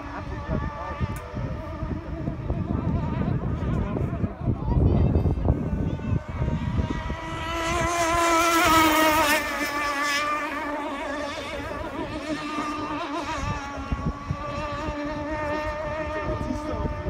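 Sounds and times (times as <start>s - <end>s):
toy speedboat motor whine: 0.0s - 17.0s.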